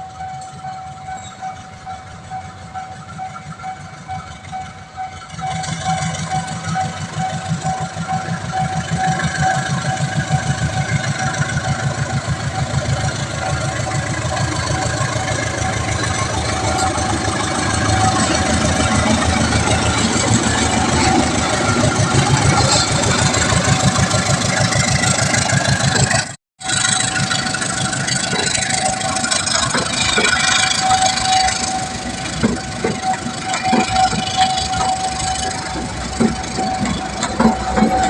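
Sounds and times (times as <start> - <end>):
large engine throbbing: 5.6 - 38.0.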